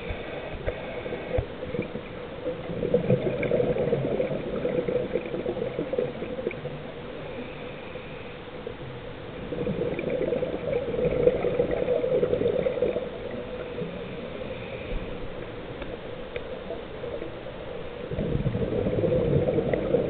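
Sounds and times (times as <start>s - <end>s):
underwater breath bubbling: 0.0s - 8.6s, 9.3s - 16.0s, 16.6s - 20.0s.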